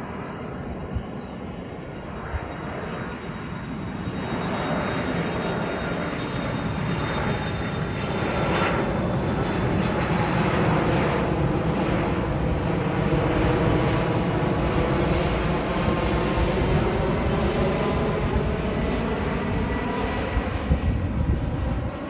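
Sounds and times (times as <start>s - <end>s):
high jet engine whine: 0.0s - 22.0s
jet engine rumble: 0.0s - 22.0s.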